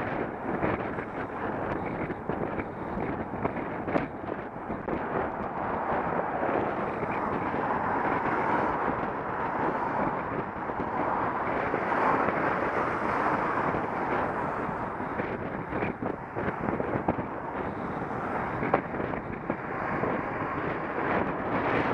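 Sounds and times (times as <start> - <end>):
wind noise on microphone: 0.0 - 21.9.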